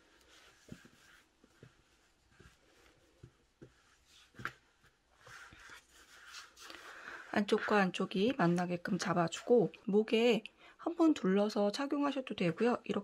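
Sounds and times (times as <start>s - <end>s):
soft rustling of yarn: 0.0s - 13.0s.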